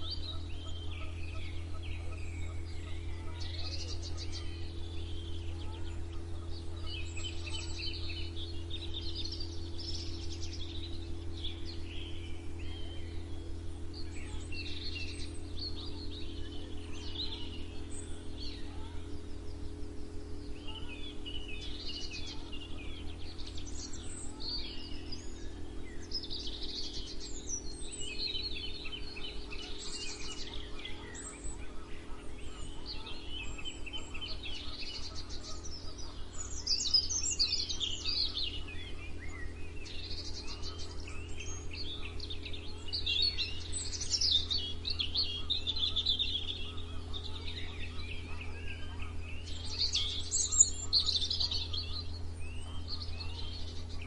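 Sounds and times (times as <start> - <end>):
songbirds singing and chirping: 0.0 - 54.0
steady low hum: 0.0 - 54.0.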